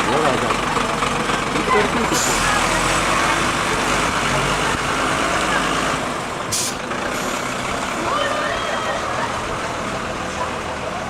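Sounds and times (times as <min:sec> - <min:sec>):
street noise: 0:00.0 - 0:11.0
truck engine running: 0:00.0 - 0:11.0.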